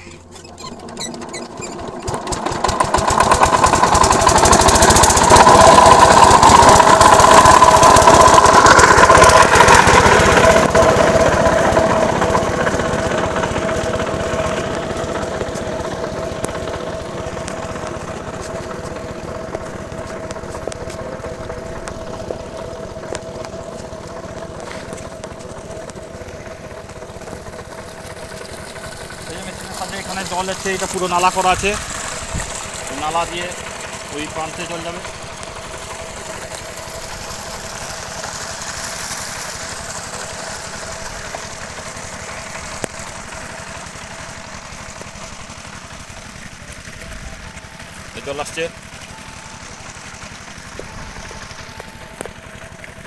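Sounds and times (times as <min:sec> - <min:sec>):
small pump engine running: 0:00.0 - 0:53.0.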